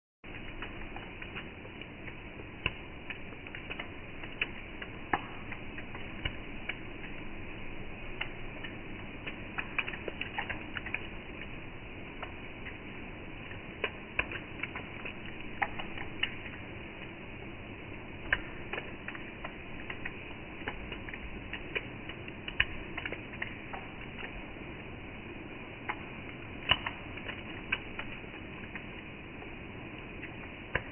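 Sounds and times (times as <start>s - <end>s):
drops ticking on hard surface: 0.3s - 30.9s
rain hiss: 0.3s - 30.9s.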